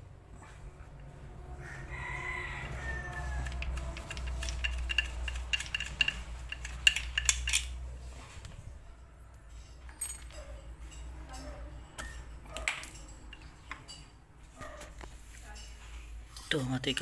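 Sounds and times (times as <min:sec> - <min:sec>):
metal tools clinking and rattling: 0:02.6 - 0:17.0.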